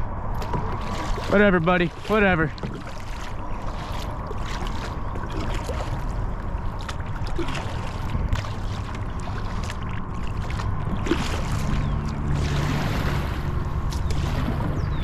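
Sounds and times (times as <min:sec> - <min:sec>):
low steady hum: 0:00.0 - 0:15.0
low steady rumble: 0:00.0 - 0:15.0
water sloshing around kayak: 0:00.0 - 0:15.0.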